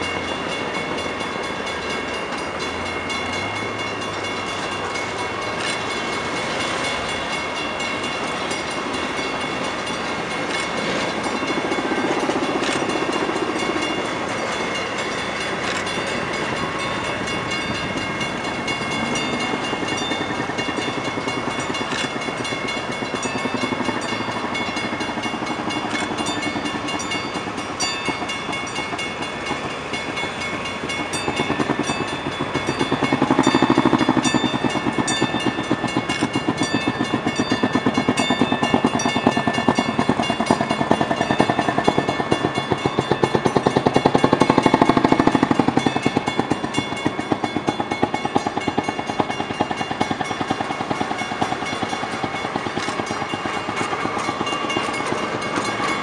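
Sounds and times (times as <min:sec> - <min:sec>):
steel wheels clicking on track: 0:00.0 - 0:56.0.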